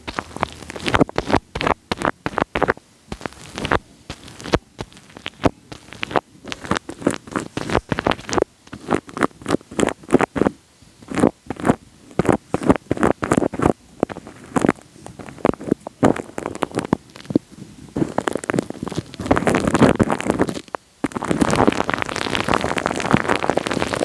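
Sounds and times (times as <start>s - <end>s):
wet sticky crackling on microphone: 0.0s - 24.0s.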